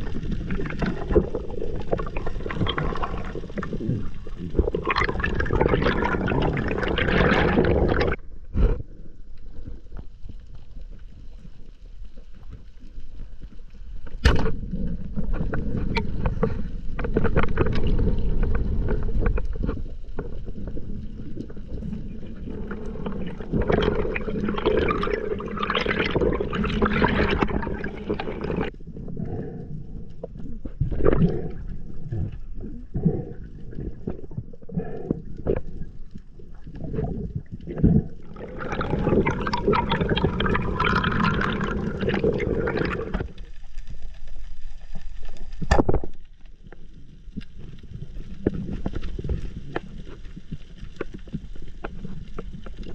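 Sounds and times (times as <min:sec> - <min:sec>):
dense crackling hiss: 0:00.0 - 0:52.9
underwater rumble: 0:00.0 - 0:52.9
water bubbling: 0:00.0 - 0:52.9.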